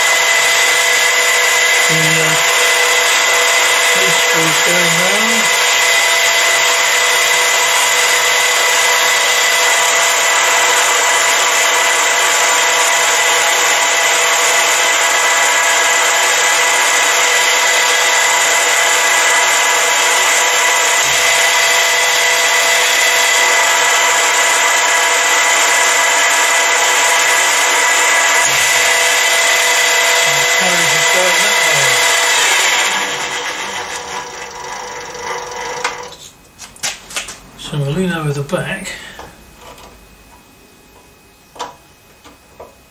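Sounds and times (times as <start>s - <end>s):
lathe motor whining hum: 0.0s - 42.7s.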